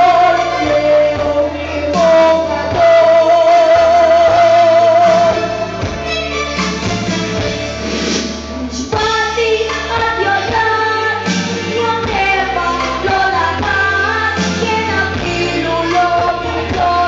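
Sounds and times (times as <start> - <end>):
person singing: 0.0 - 5.8, 8.6 - 17.0
band accompaniment: 0.0 - 17.0.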